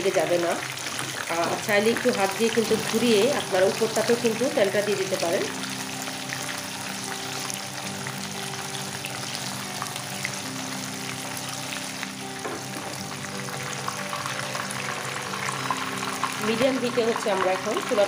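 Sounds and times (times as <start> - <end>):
fish sizzling in hot oil: 0.0 - 18.0.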